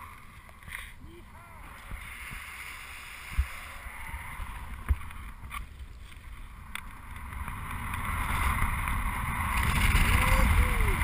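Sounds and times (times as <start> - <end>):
wind rumble on microphone: 1.2 - 11.0.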